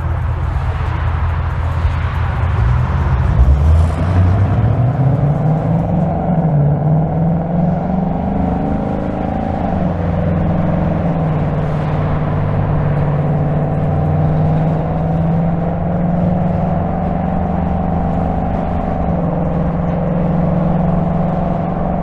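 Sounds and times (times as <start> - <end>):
car engine cruising: 0.0 - 22.0.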